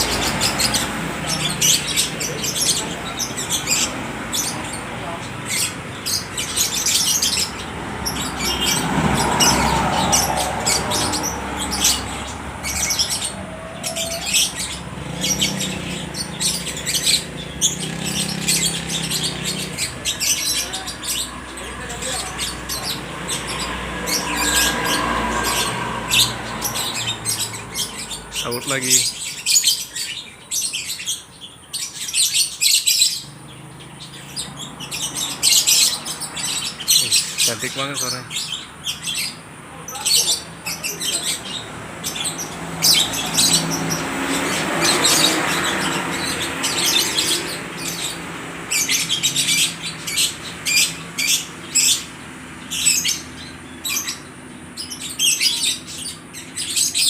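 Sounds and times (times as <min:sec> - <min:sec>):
lovebirds chirping shrilly: 0:00.0 - 0:57.0.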